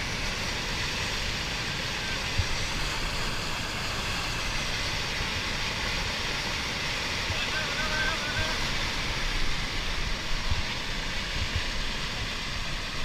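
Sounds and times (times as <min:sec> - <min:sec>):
landslide rushing roar: 0:00.0 - 0:13.0.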